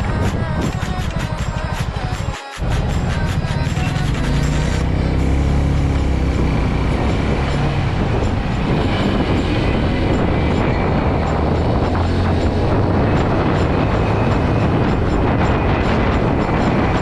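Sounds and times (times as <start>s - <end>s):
motorcycle engine hum: 0.0s - 17.0s
road noise: 0.0s - 17.0s.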